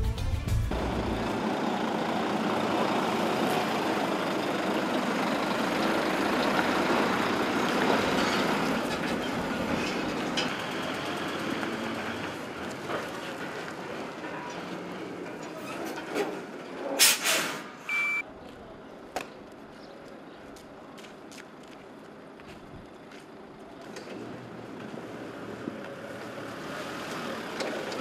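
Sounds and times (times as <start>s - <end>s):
truck engine and road noise: 0.0s - 28.0s.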